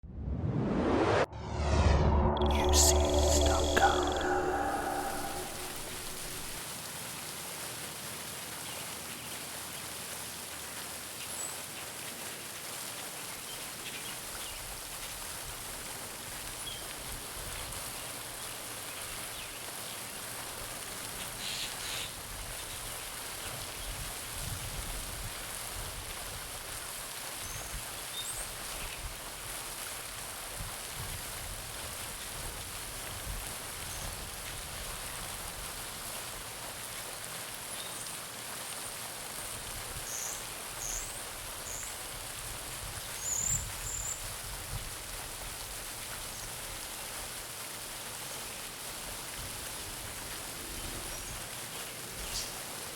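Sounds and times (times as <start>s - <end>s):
fountain splashing into water: 5.0s - 52.9s.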